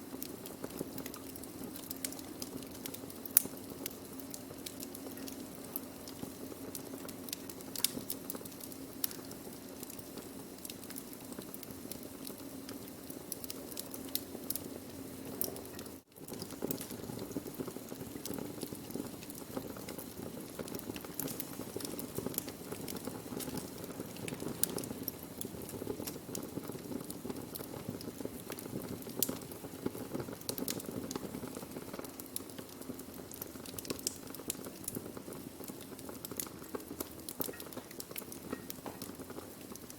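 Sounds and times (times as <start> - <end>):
burning wood crackling and popping: 0.0 - 39.9.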